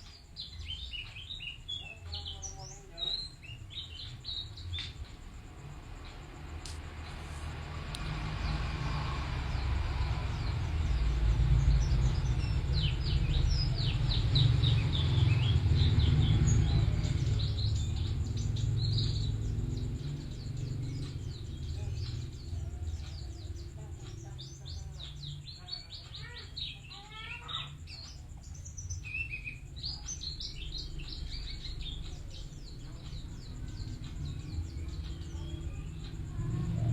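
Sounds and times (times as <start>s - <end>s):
bird twittering chirps: 0.0s - 36.9s
low background rumble: 0.0s - 36.9s.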